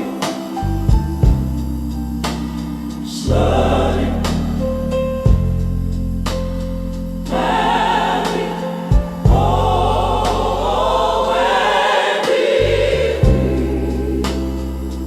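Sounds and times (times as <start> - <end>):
gospel choir singing with band: 0.0 - 5.6, 7.2 - 15.0.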